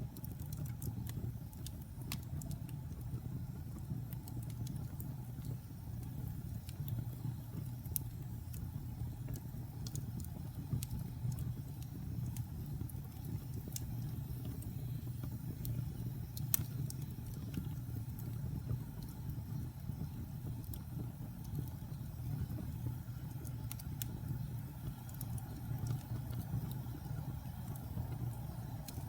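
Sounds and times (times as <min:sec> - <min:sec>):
fire crackles and pops: 0:00.0 - 0:29.0
fire rumbling in a fireplace: 0:00.0 - 0:29.0.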